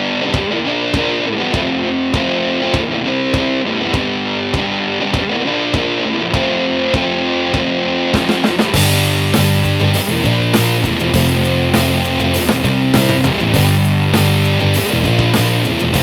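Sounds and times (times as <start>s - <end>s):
distorted electric guitar: 0.0s - 16.0s
steady drum beat: 0.3s - 16.0s.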